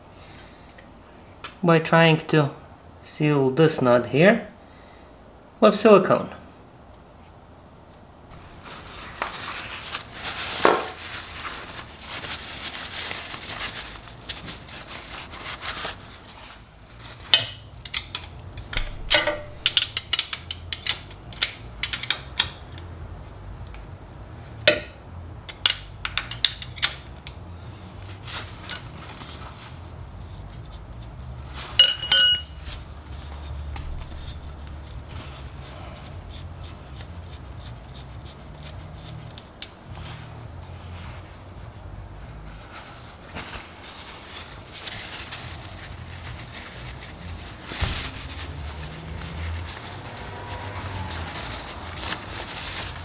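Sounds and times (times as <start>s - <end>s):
hand tools handling and rubbing: 8.3s - 23.5s, 24.5s - 53.0s.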